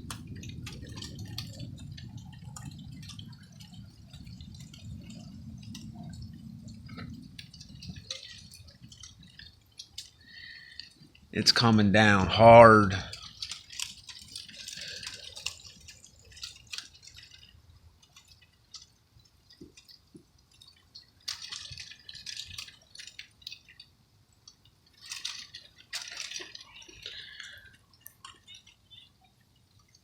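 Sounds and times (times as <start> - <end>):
precipitation pattering and dripping: 0.0 - 30.0.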